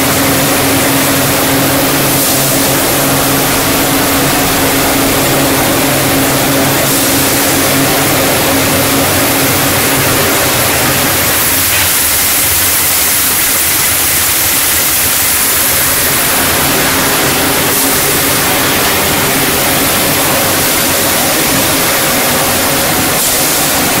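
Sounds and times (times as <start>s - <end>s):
mixer motor hum: 0.0s - 24.0s
strong hiss: 1.7s - 24.0s.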